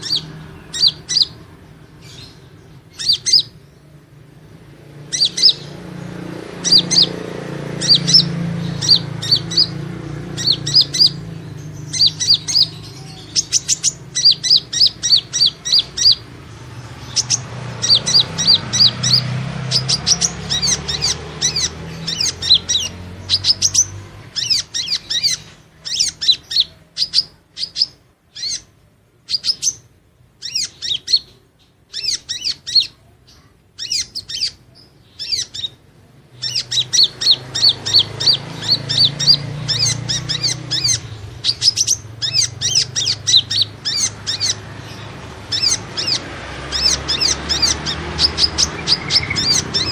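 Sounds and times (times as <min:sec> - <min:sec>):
sunbird high sharp chirps: 0:00.0 - 0:49.9.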